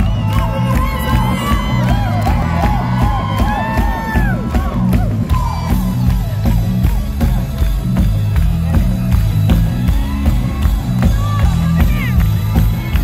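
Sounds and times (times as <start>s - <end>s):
live rock band: 0.0s - 13.0s
steady drum beat: 0.0s - 13.0s.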